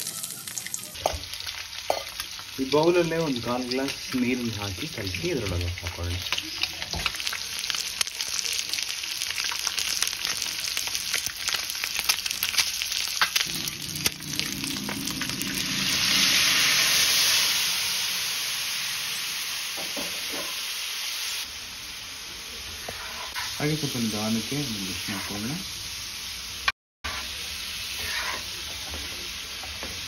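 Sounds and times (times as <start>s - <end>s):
eggs sizzling in oil: 0.0s - 30.0s.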